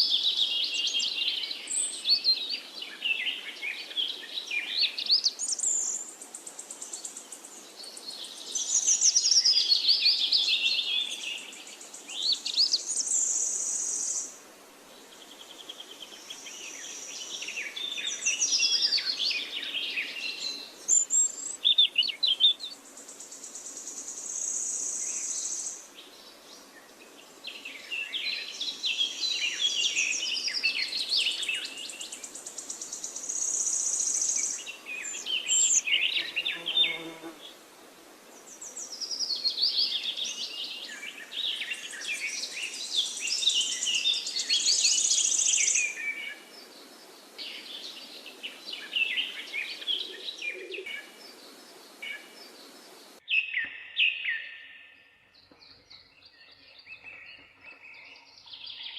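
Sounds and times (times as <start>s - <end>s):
songbirds twittering: 0.0s - 37.6s, 38.2s - 58.9s.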